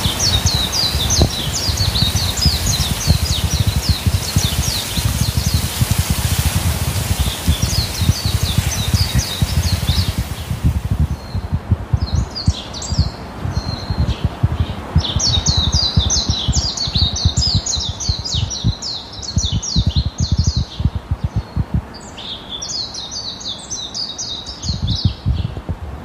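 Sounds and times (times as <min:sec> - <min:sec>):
wind gusting on microphone: 0:00.0 - 0:23.7, 0:24.4 - 0:26.0
songbirds chirping: 0:00.0 - 0:25.7.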